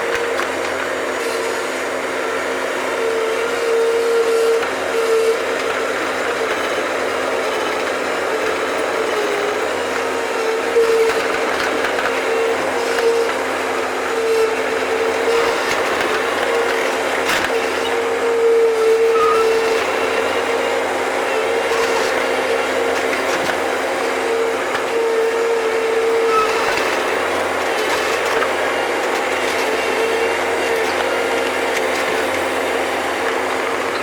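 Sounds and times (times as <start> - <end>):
skid steer engine and hydraulics: 0.0 - 34.0.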